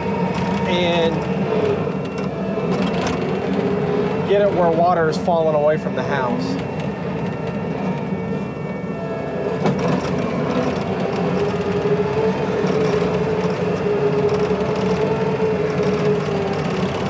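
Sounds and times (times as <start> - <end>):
diesel engine under load: 0.0 - 17.0
hydraulic whine: 0.0 - 17.0.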